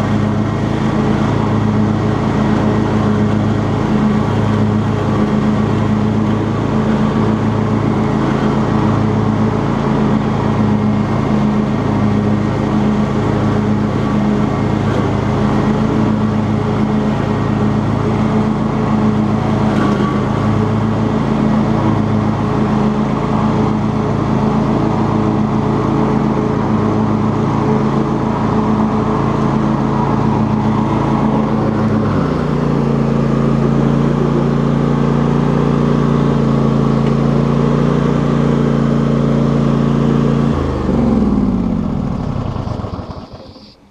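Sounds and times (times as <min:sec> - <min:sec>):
lawn tractor engine mowing: 0:00.0 - 0:43.9.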